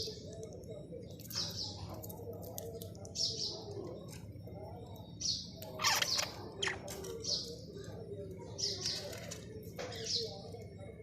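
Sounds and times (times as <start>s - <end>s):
soft continuous warble: 0.0s - 11.0s.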